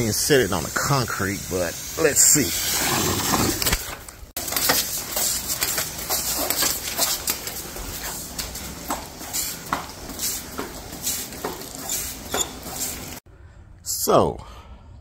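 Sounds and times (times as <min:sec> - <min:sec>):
water spraying hiss: 0:00.0 - 0:03.6, 0:04.5 - 0:13.2.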